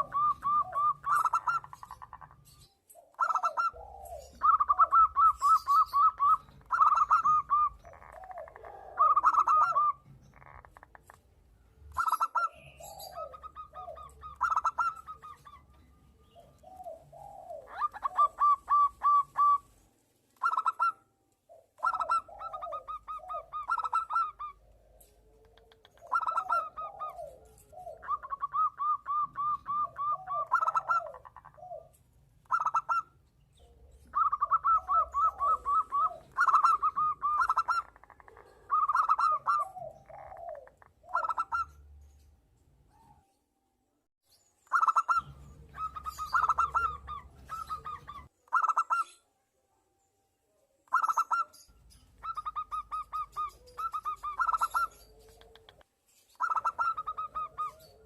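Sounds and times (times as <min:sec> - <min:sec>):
doves cooing: 0:00.0 - 0:11.3, 0:11.9 - 0:19.8, 0:20.4 - 0:41.9, 0:44.7 - 0:49.1, 0:52.2 - 0:58.0.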